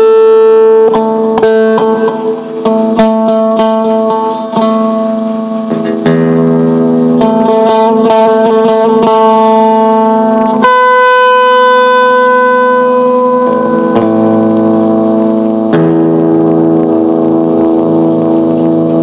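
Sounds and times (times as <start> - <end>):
guitar through effects: 0.0 - 19.0.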